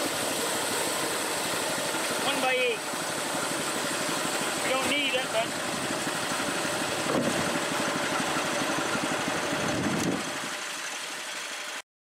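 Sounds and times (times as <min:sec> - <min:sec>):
small gasoline engine running: 0:00.0 - 0:11.8.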